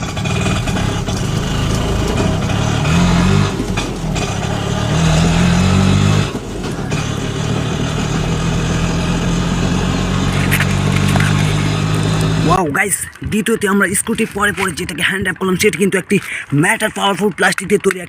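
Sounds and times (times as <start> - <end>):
vehicle engine revving and idling: 0.0 - 18.0.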